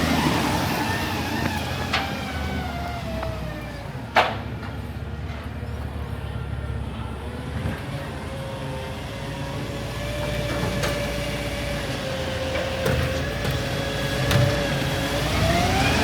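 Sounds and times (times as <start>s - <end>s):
garbage truck engine rumbling: 0.0s - 16.0s.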